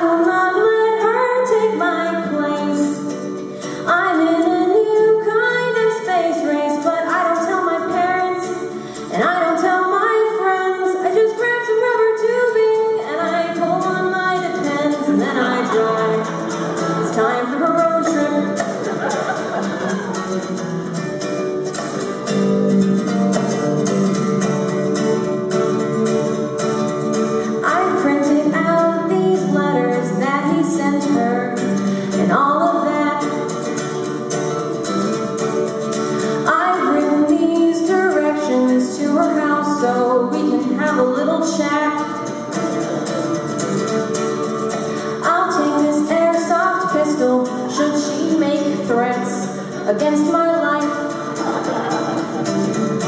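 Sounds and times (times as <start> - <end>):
woman singing: 0.0 - 21.1, 27.4 - 35.4, 36.2 - 53.0
ukulele strumming: 0.0 - 53.0.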